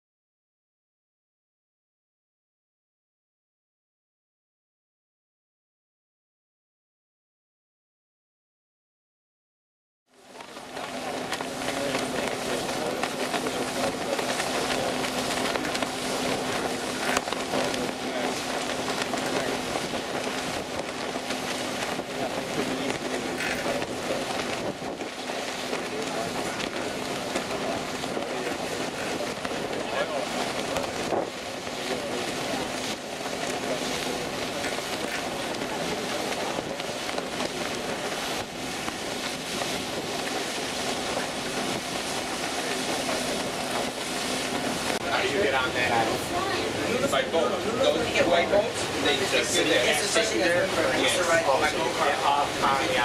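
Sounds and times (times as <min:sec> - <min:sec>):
boat engine drone: 0:10.1 - 0:53.0
faint voices: 0:10.1 - 0:53.0
rushing water: 0:10.1 - 0:53.0
wind: 0:10.1 - 0:53.0.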